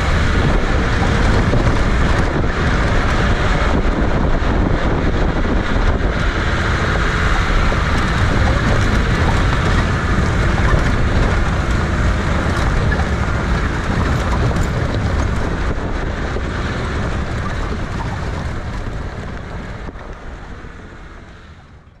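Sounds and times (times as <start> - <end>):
jeep engine and tyre noise: 0.0 - 22.0
wind buffeting microphone: 0.0 - 22.0.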